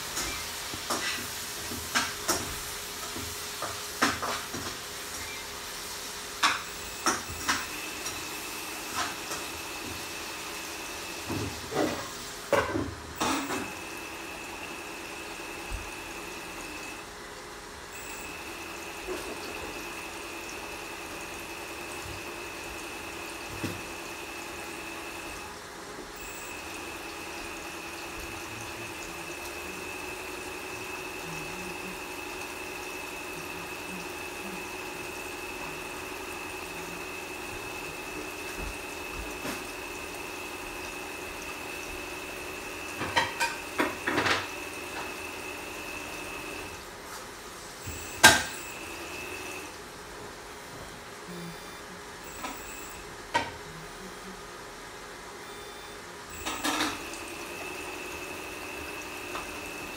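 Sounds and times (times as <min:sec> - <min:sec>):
water pump motor whining: 0:00.0 - 0:59.9.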